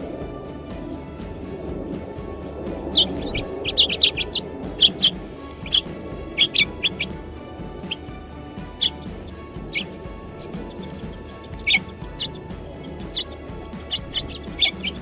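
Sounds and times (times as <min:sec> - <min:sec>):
birds chirping: 0:00.0 - 0:15.0
quiet background music: 0:00.0 - 0:15.0.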